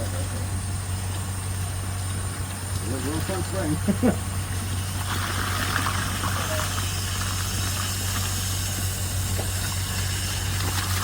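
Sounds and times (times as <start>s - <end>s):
engine hum: 0.0s - 11.0s
water jet hissing: 0.0s - 11.0s.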